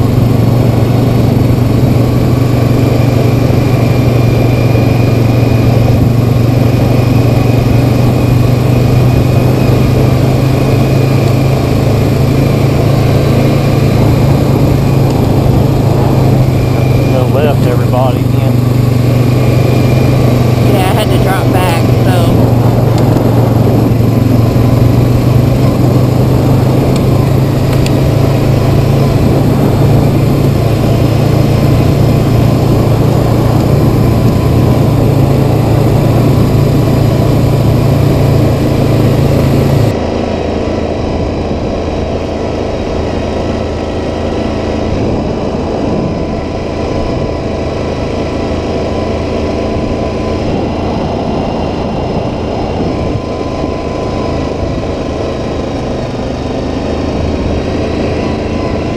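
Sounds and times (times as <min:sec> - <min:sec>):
atv engine running: 0:00.0 - 0:58.9
quieter atv engine running: 0:00.0 - 0:58.9.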